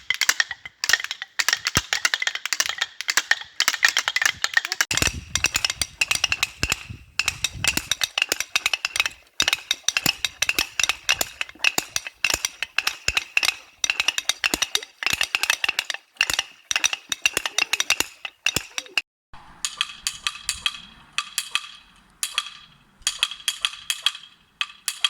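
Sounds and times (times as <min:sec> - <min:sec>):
wooden clappers rattling: 0:00.0 - 0:19.0, 0:19.6 - 0:25.0.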